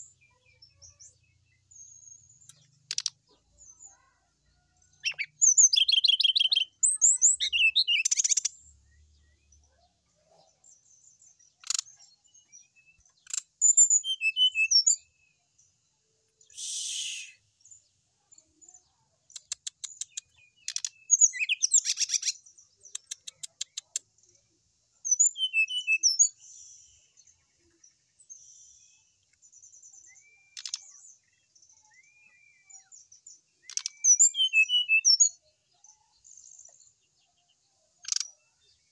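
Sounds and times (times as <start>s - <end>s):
bird singing chirps and trills: 0.0s - 38.9s.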